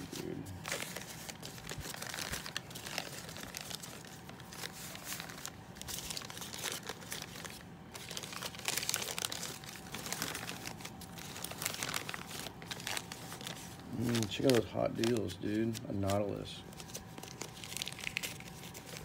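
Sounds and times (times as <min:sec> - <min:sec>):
paper crinkling and rustling: 0:00.0 - 0:19.0.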